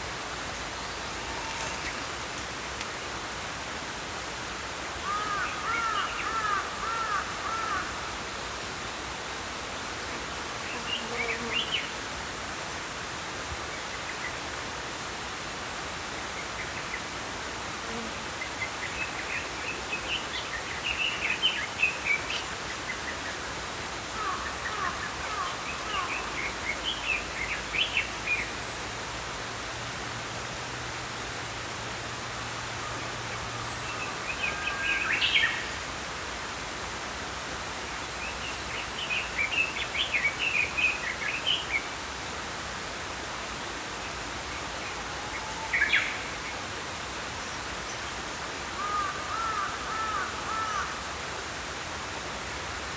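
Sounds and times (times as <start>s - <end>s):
flowing stream: 0.0s - 52.9s.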